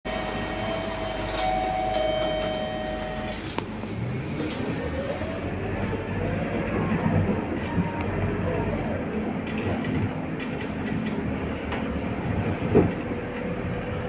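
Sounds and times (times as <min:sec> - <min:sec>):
bus steady whine: 0:00.0 - 0:14.0
bus engine accelerating: 0:00.1 - 0:14.0.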